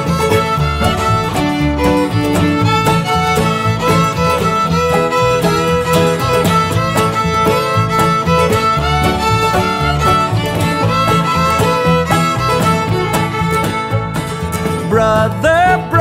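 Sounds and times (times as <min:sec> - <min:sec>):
steady beat: 0:00.0 - 0:15.6
fiddle with sliding notes: 0:00.0 - 0:16.0
guitar: 0:00.0 - 0:16.0.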